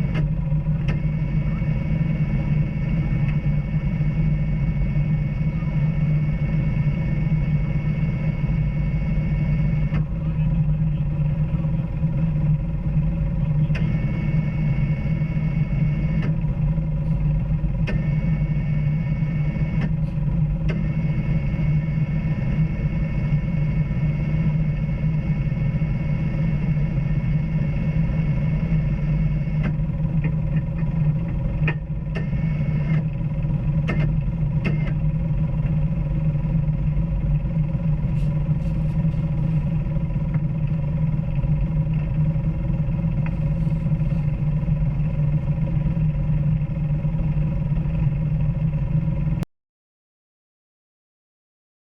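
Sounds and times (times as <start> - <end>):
off-road vehicle engine running: 0.0 - 49.4.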